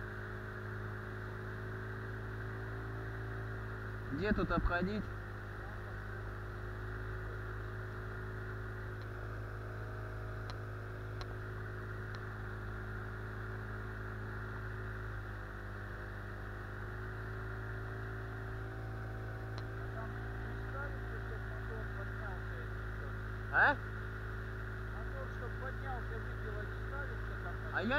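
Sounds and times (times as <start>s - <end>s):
small boat motor humming: 0.0s - 27.9s.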